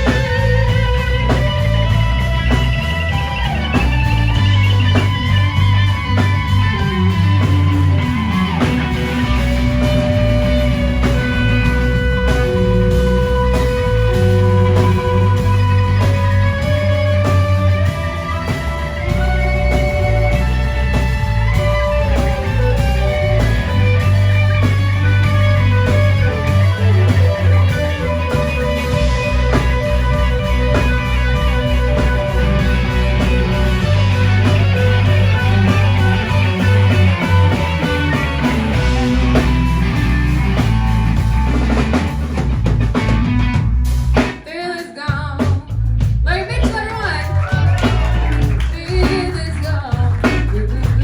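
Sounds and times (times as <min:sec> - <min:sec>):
electric guitar lead notes: 0:00.0 - 0:44.4
bass guitar: 0:00.0 - 0:51.0
drum beats: 0:00.0 - 0:51.0.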